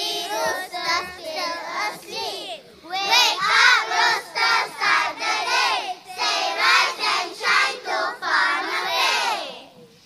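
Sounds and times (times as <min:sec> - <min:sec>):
children singing in chorus: 0:00.0 - 0:09.8.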